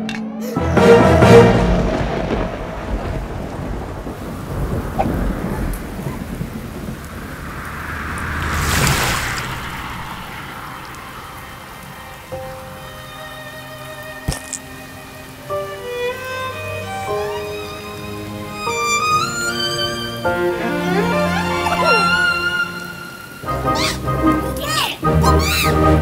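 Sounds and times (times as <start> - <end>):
heavy rain: 0.5 - 26.0
thunder rumbling: 0.8 - 24.3.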